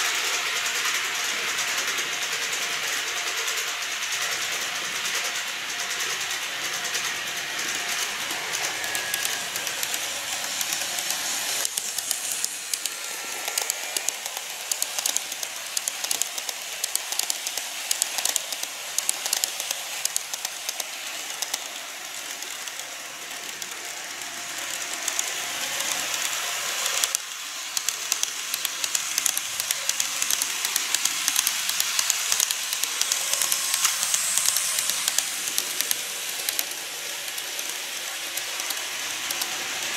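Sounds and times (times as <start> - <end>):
model train hiss: 0.0 - 39.9
wheels clicking over rail joints: 0.0 - 39.9.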